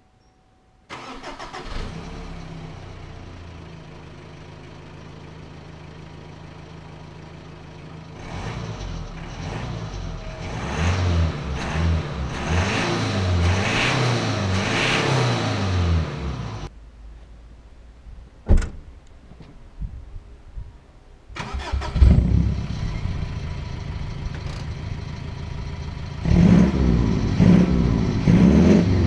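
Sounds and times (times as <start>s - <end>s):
car engine idling and revving: 0.9s - 16.7s, 21.4s - 29.0s.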